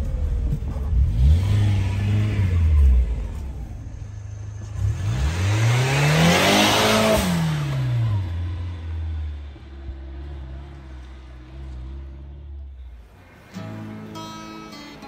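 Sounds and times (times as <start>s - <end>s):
small car engine revving: 0.8s - 14.7s.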